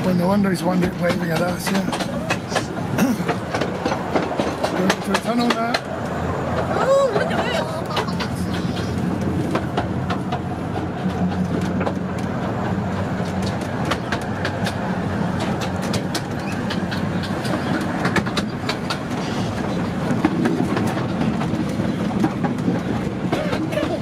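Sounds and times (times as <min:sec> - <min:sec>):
miniature train rumbling: 0:00.0 - 0:24.0
wheels clacking over rail joints: 0:00.0 - 0:24.0.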